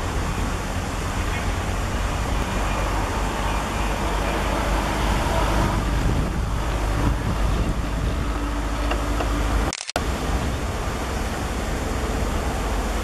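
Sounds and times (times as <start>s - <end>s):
wind buffeting microphone: 0.0s - 11.2s
diesel locomotive engine rumble: 0.0s - 13.0s.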